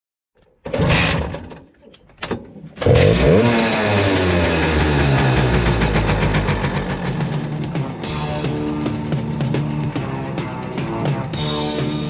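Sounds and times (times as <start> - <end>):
small motorcycle engine starting: 0.6 - 12.0.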